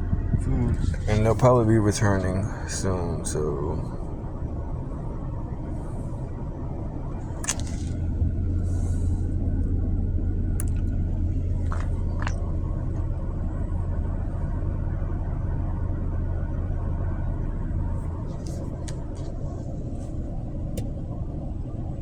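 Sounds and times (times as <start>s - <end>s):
car cabin rumble: 0.0s - 22.0s.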